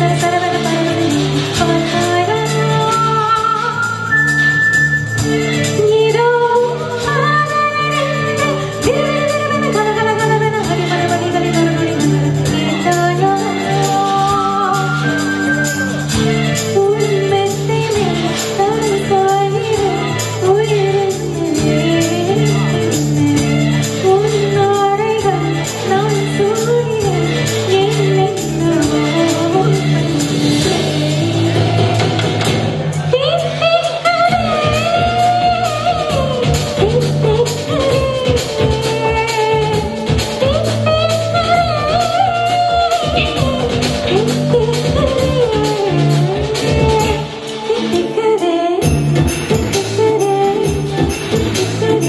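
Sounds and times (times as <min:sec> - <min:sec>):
bass guitar: 0:00.0 - 0:52.0
electric guitar: 0:00.0 - 0:52.0
percussion: 0:00.0 - 0:52.0
woman singing: 0:00.0 - 0:52.0.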